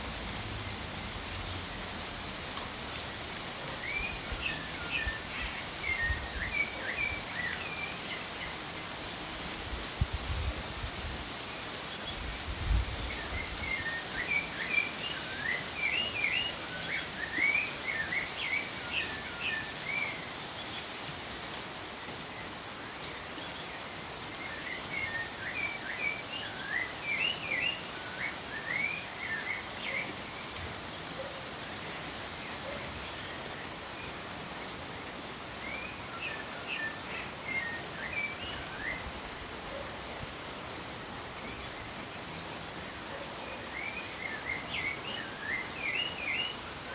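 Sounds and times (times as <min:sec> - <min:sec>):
rain hissing: 0:00.0 - 0:46.9
songbird singing: 0:00.6 - 0:46.9.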